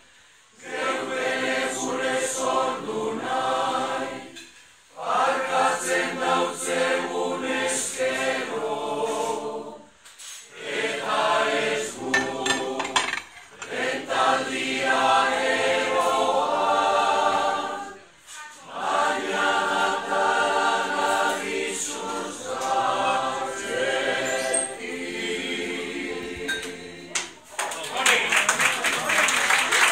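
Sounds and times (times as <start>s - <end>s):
choir singing a cappella: 0.0s - 27.4s.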